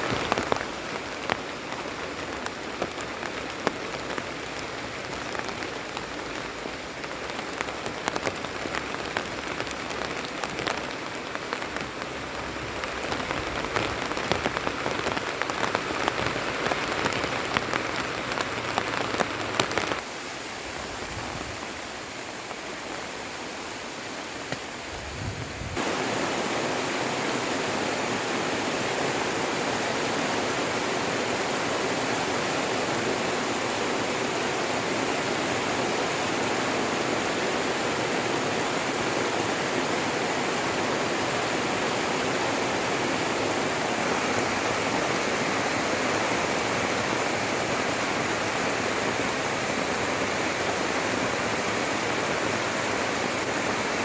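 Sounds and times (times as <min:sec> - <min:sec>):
rain drops ticking on a surface: 0:00.0 - 0:54.0
rushing rain: 0:00.0 - 0:54.0
soft rain patter: 0:00.0 - 0:54.0.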